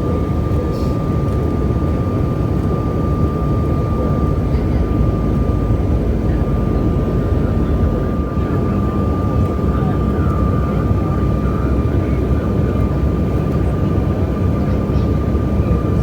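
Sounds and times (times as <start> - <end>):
jet cabin rumble: 0.0 - 16.0.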